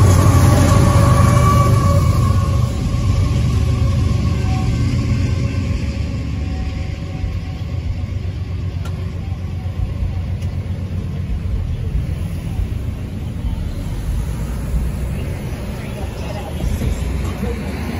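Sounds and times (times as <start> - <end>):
car engines idling and traffic: 0.0 - 17.9.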